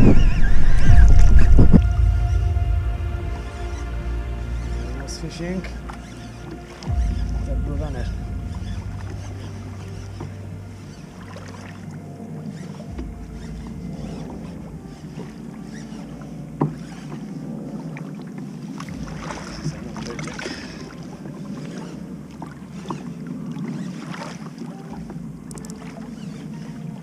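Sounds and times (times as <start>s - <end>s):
water slapping against kayak hull: 4.8s - 27.0s.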